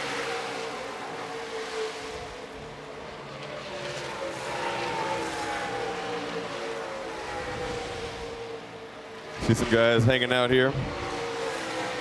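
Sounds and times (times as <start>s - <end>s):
race truck engines passing: 0.0s - 12.0s.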